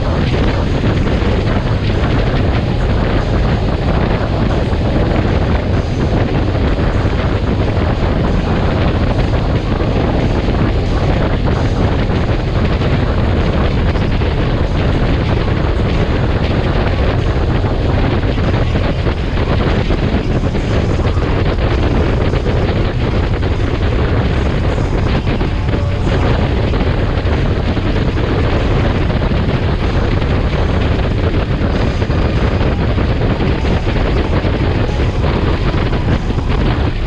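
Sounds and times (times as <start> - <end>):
motorcycle engine drone: 0.0 - 37.0
road noise: 0.0 - 37.0
wind buffeting microphone: 0.0 - 37.0.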